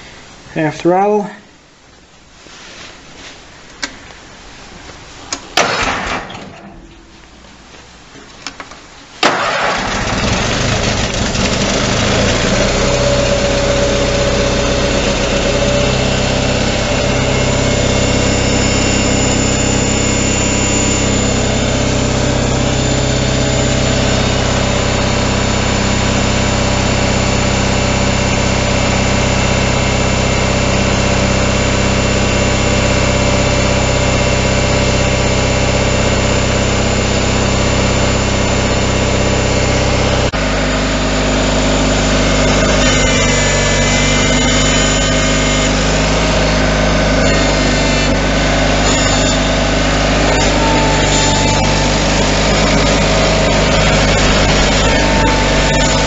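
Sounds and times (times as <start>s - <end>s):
garden tractor engine running: 9.3s - 56.0s.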